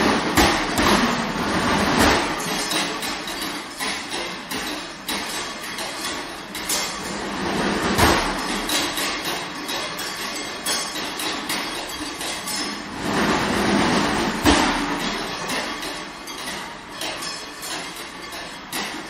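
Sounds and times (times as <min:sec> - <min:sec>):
percussion hits: 0:00.0 - 0:19.0.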